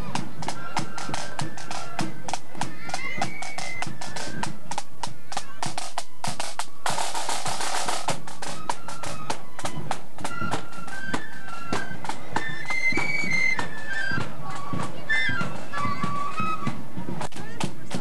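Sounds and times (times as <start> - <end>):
flutes playing a melody: 0.0 - 5.1, 5.7 - 17.1
side drums beating march rhythm: 0.0 - 18.0.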